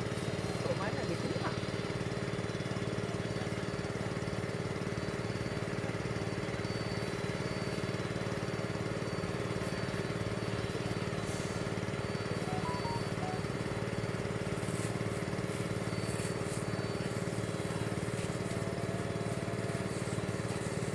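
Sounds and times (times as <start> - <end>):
steady engine drone: 0.0 - 20.9.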